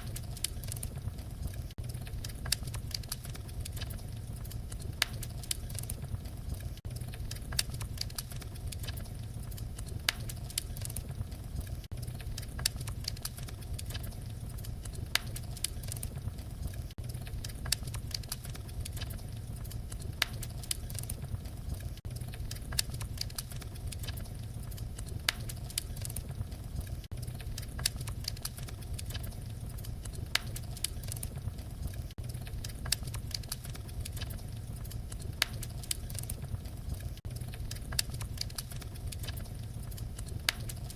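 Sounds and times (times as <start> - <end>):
fire pops and snaps: 0.0 - 40.9
wood fire crackling: 0.0 - 40.9.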